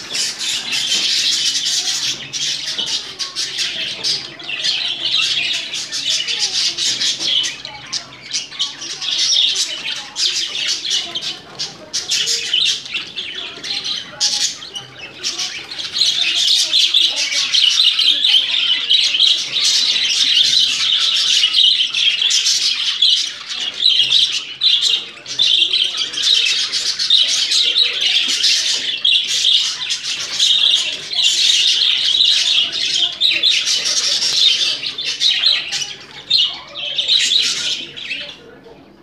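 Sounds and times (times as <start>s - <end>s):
budgerigars chattering and warbling: 0.0s - 39.0s.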